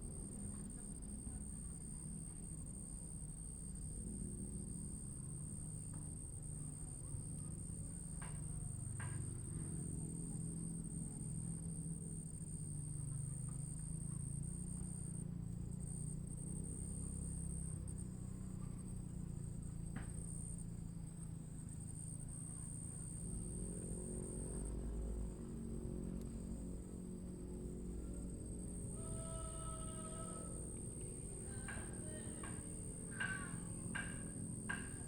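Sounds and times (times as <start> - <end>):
insect chirp: 0.0 - 35.0
insects trilling: 0.0 - 35.0.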